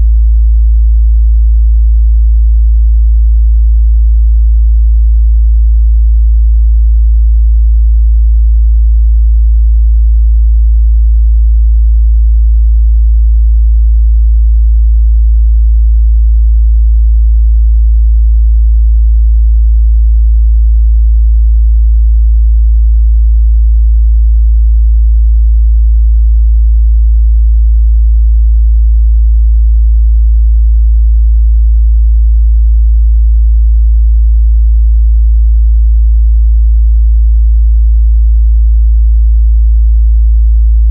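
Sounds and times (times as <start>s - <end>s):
low sine-wave test tone: 0.0s - 40.9s.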